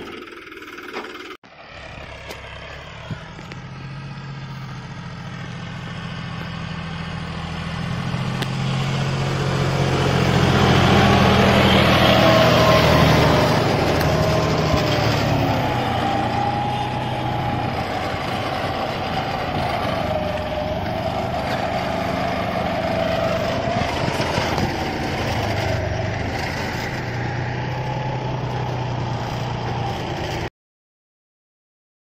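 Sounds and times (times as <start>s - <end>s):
tractor diesel engine under load: 0.0s - 30.5s.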